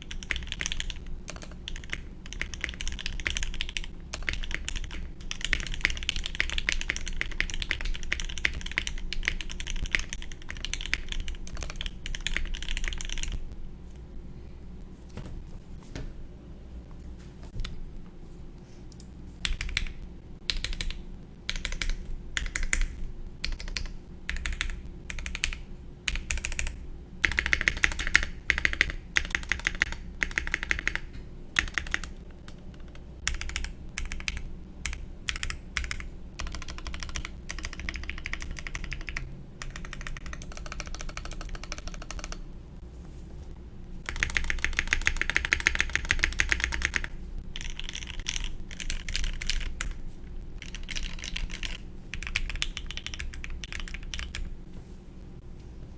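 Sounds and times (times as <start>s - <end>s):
mechanical keyboard typing: 0.0s - 13.4s, 19.4s - 42.4s, 44.1s - 50.0s, 50.6s - 54.5s.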